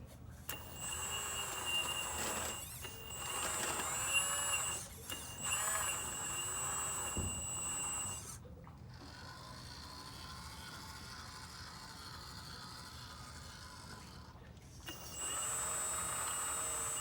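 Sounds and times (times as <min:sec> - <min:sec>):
electric pump and motors whining: 0:00.0 - 0:17.0.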